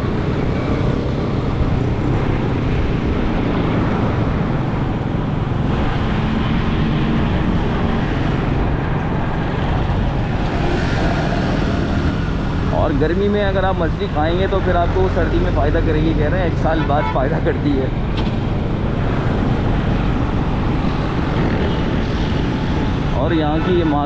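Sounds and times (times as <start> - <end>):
surrounding traffic noise: 0.0 - 24.0.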